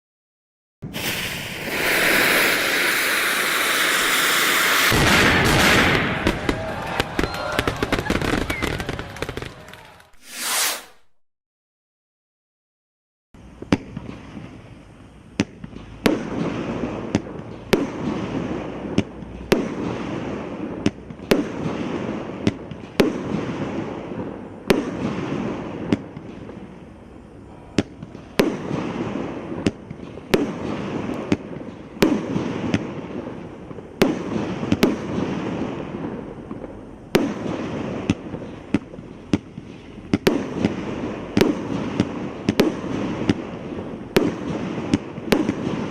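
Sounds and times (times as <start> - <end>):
crackling fireworks effect: 0.8 - 11.2, 13.4 - 45.9
fireworks shots: 0.8 - 11.2, 13.4 - 27.2, 27.8 - 45.9.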